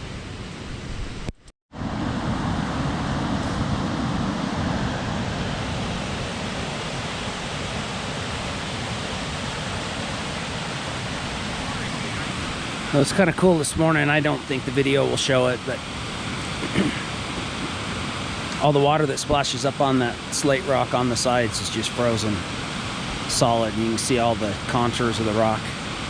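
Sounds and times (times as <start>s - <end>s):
waterfall rushing: 1.8s - 26.0s.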